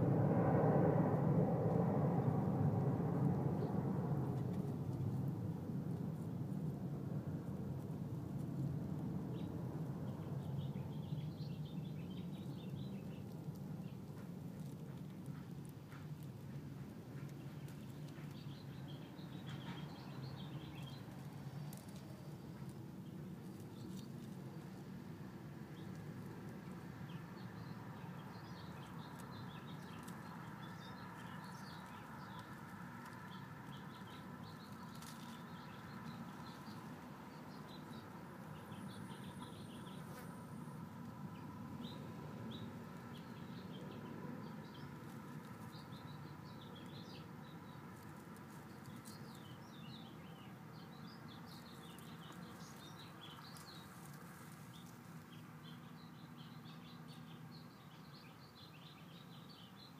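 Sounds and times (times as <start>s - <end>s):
small birds chirping: 7.2s - 59.9s.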